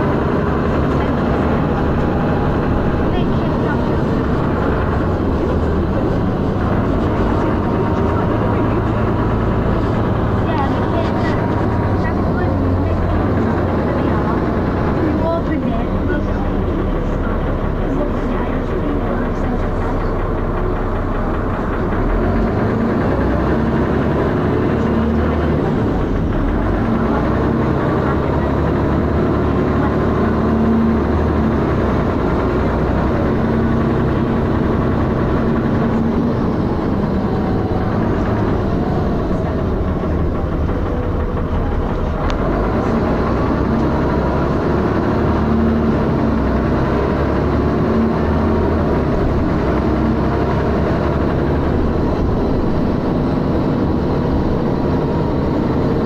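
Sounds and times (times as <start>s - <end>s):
bus engine knocking and revving: 0.0s - 56.0s.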